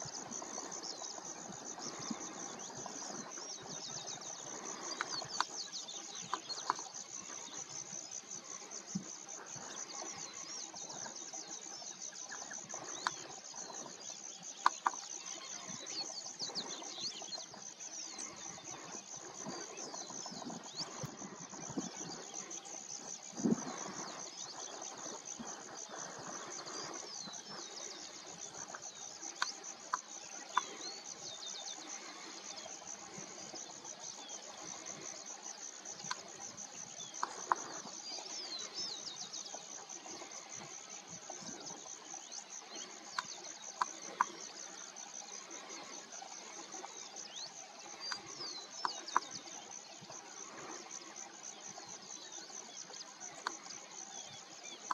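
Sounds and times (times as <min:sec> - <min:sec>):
insects chirring: 0:00.0 - 0:54.9
waterbirds calling: 0:00.0 - 0:54.9.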